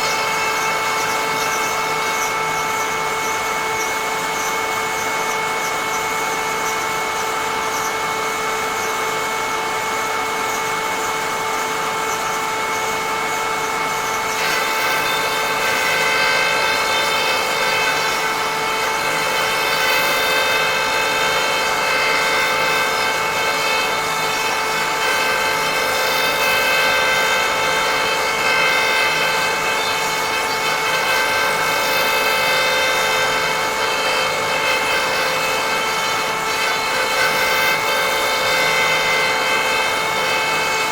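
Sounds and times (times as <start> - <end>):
cutter motor cutting wood: 0.0 - 40.9.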